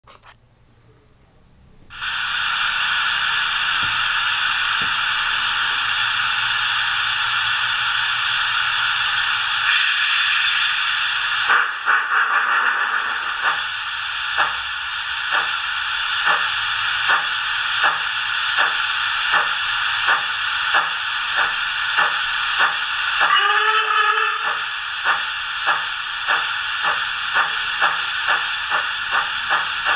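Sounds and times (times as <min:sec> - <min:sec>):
steam hiss: 0:01.9 - 0:29.9
steam locomotive exhaust chuffs: 0:01.9 - 0:29.9.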